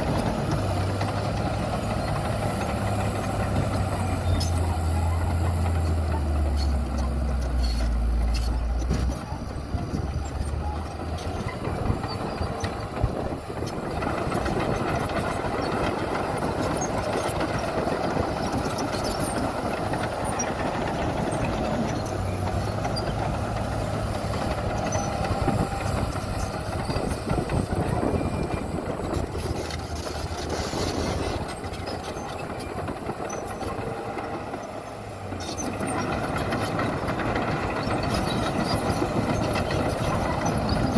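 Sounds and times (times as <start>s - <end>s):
diesel machinery engine drone: 0.0s - 40.9s.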